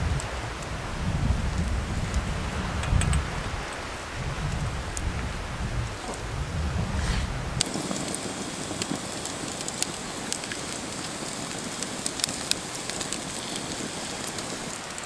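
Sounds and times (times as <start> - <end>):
rain falling: 0.0 - 15.0
raindrops ticking on surfaces: 0.0 - 15.0.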